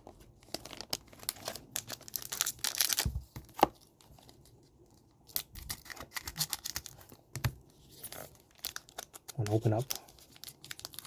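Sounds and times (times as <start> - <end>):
foil wrapper crinkling and tearing: 0.4 - 4.6, 5.2 - 7.3, 8.0 - 11.0.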